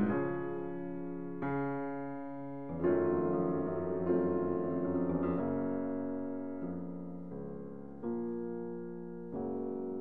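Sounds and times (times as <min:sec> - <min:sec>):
gentle piano chords: 0:00.0 - 0:10.0.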